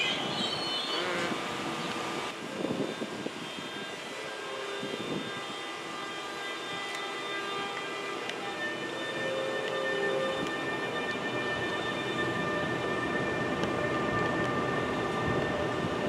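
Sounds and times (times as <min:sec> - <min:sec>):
electric locomotive running hum: 0:00.0 - 0:16.0
motor and blower whining: 0:00.2 - 0:16.0.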